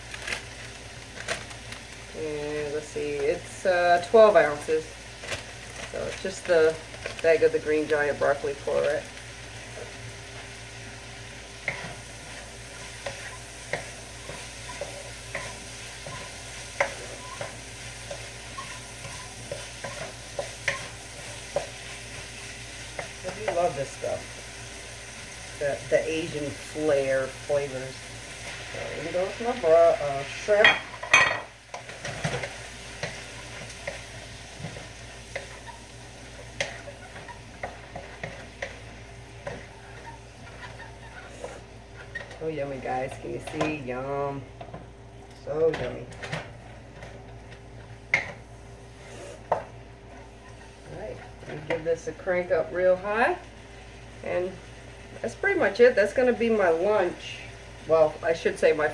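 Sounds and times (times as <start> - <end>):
stir fry sizzling in a wok: 0.0 - 58.9.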